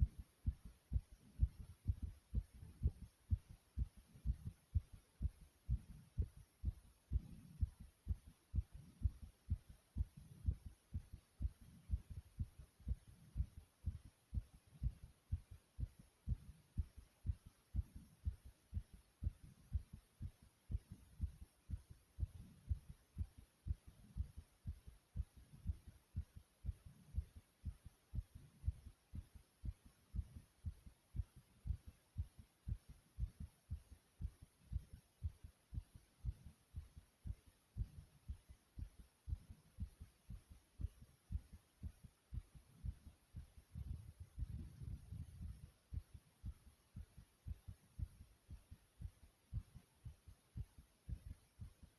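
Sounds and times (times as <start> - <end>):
fast heartbeat thumps: 0.0 - 51.9.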